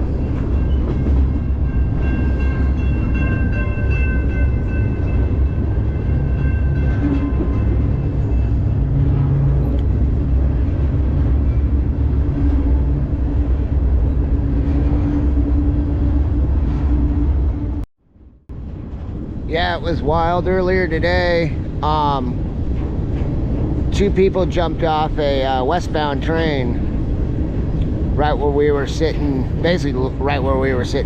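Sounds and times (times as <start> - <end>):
train cars rumbling on rails: 0.0 - 17.9, 18.5 - 31.0.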